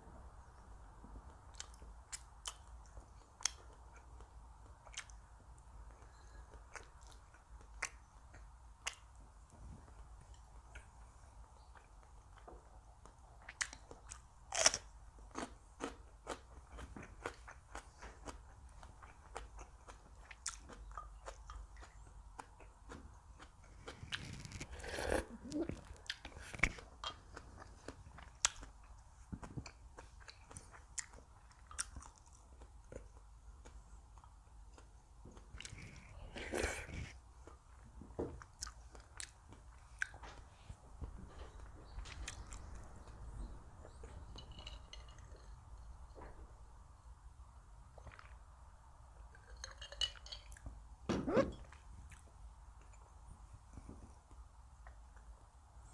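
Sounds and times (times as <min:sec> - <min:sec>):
chewing crunchy food: 0:01.3 - 0:46.4.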